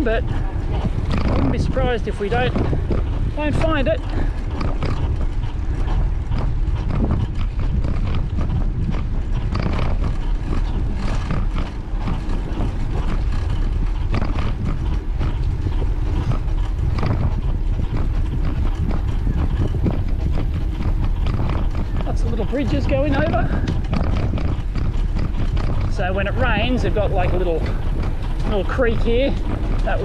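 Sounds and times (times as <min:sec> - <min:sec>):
bicycle rattling over bumps: 0:00.0 - 0:30.0
tyres rolling on path: 0:00.0 - 0:30.0
wind on microphone: 0:00.0 - 0:30.0.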